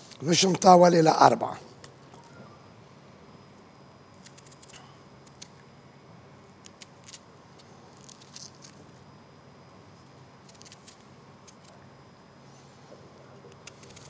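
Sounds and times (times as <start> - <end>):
low studio hum: 0.0 - 14.0.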